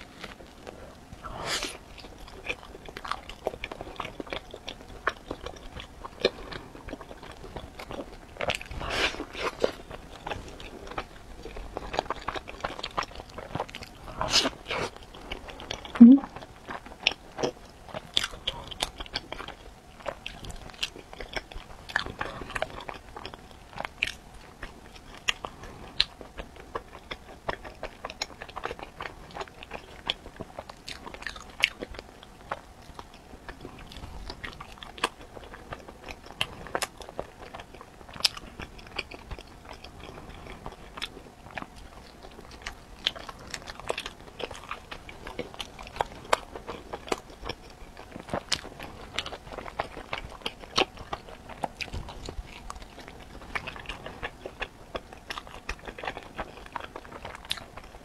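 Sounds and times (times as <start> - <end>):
close chewing mouth clicks: 1.6 - 58.0.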